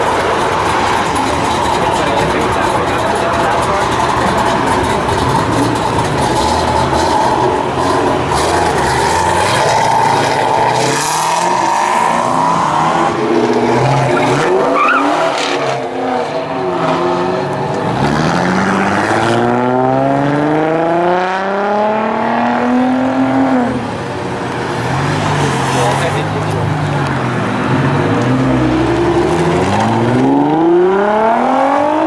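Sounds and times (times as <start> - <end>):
car engines accelerating: 0.0 - 32.0.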